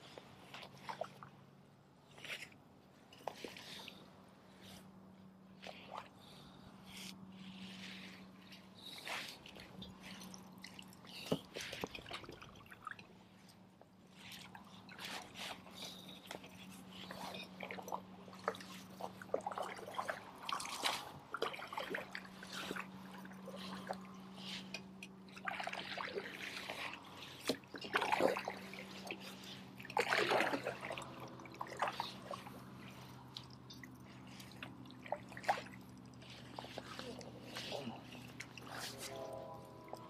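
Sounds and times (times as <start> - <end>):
faint steady hum: 0.0 - 40.0
paddle strokes in water: 0.0 - 40.0.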